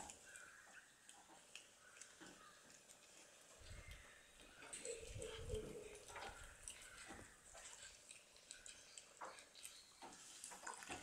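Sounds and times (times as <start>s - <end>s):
kittens chewing and licking: 0.0s - 11.0s.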